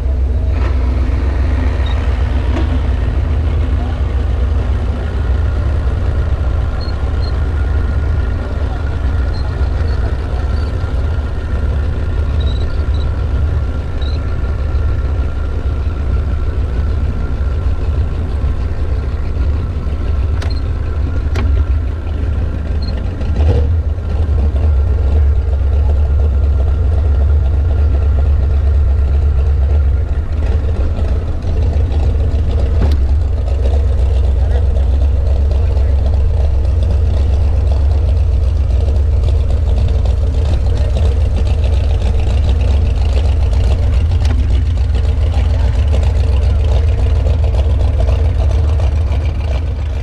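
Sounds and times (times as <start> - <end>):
outboard motor idling: 0.0 - 50.0.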